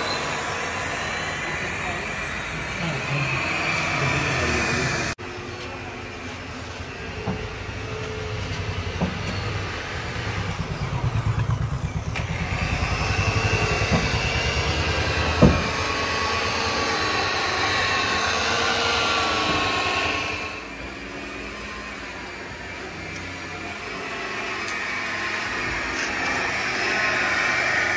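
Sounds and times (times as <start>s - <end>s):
electric polisher motor whine: 0.0s - 27.9s.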